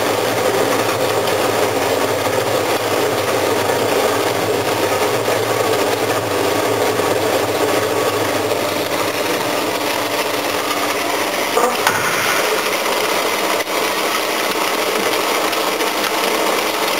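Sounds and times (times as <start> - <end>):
screw conveyor running: 0.0 - 16.9.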